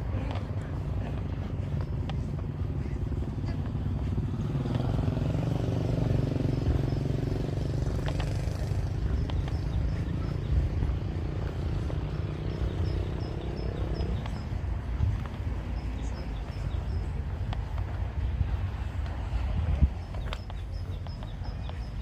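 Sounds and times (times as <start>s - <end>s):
vehicle engine passing: 0.0s - 22.0s.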